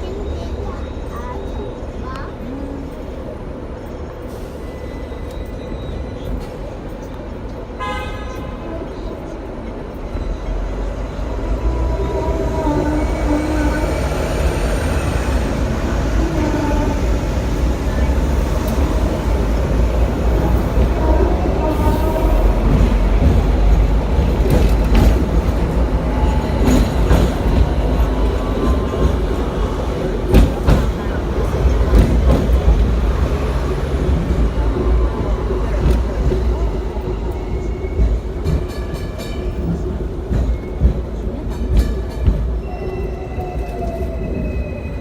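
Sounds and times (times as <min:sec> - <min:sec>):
tram rumbling on track: 0:00.0 - 0:45.0.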